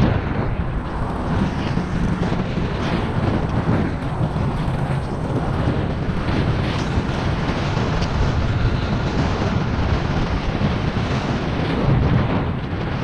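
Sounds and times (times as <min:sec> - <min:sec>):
tyres rumbling on asphalt: 0:00.0 - 0:13.0
wind buffeting microphone: 0:00.0 - 0:13.0.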